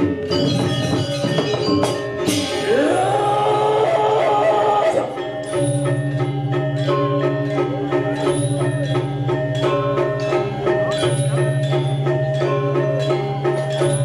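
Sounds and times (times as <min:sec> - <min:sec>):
cymbal clashes: 0:00.0 - 0:14.0
metallophones ringing: 0:00.0 - 0:14.0.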